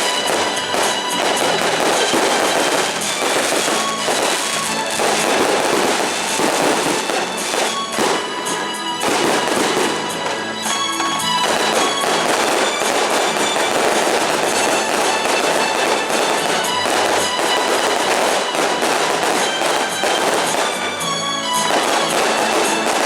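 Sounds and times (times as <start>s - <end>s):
fireworks crackling: 0.0s - 23.0s
music playing: 0.0s - 23.0s.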